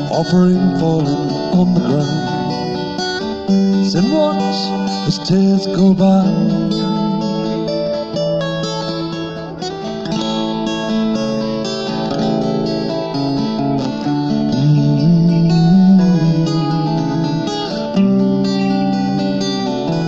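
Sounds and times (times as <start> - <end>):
acoustic guitar chords: 0.0 - 20.0.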